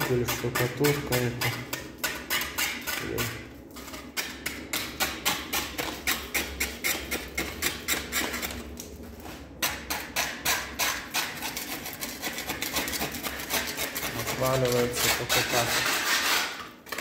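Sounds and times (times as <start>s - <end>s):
hand tool chipping tile adhesive: 0.0s - 8.6s, 9.6s - 17.0s.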